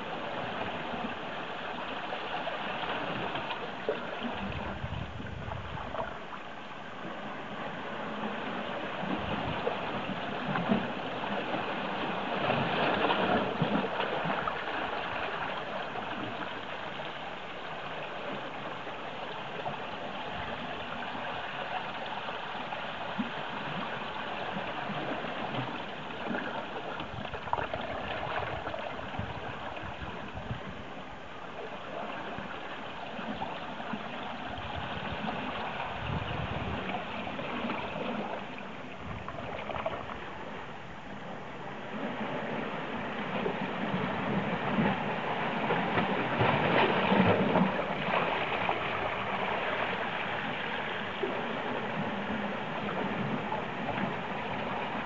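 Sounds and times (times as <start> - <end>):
water lapping among rocks: 0.0 - 55.0.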